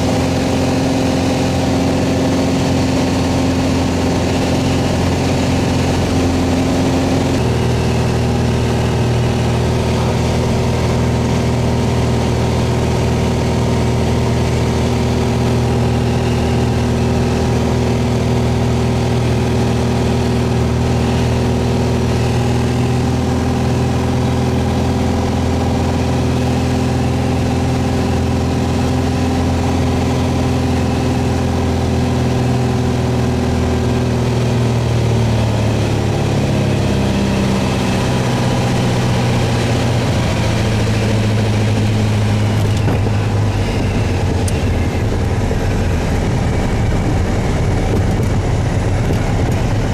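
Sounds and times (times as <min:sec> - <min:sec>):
aircraft engine and propeller droning: 0:00.0 - 0:49.9.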